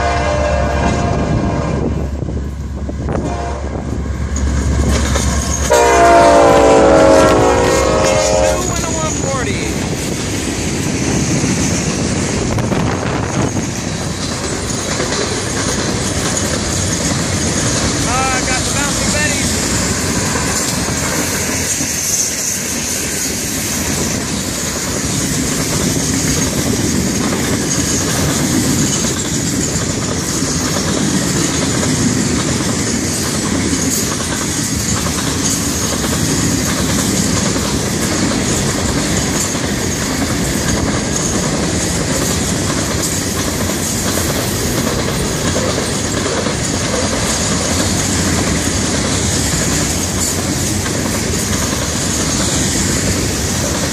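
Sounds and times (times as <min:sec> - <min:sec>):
clickety-clack over rail joints: 0:00.0 - 0:53.9
train wheels rumbling on rail: 0:00.0 - 0:53.9.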